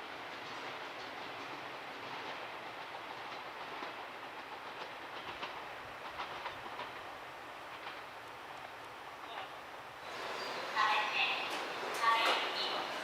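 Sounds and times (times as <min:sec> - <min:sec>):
train rumbling on rails: 0:00.0 - 0:13.0
wheels clicking over rail joints: 0:00.3 - 0:13.0.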